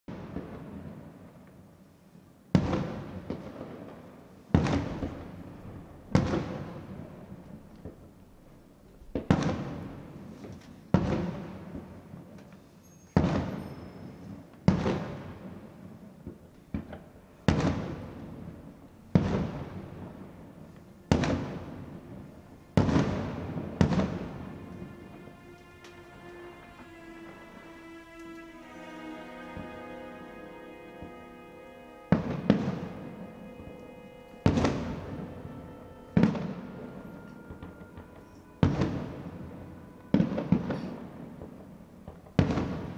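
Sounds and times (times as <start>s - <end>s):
fireworks bangs with echoing rumble: 0.1s - 1.8s, 2.5s - 8.1s, 9.0s - 26.9s, 32.1s - 42.9s.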